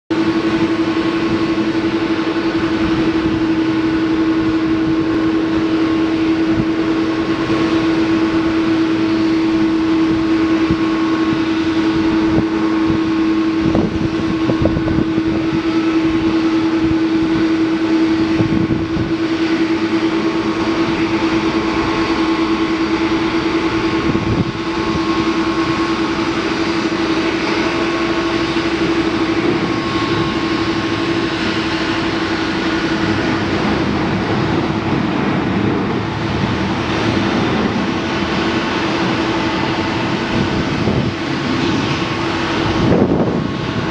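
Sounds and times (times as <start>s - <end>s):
jet engines at takeoff: 0.1s - 43.9s.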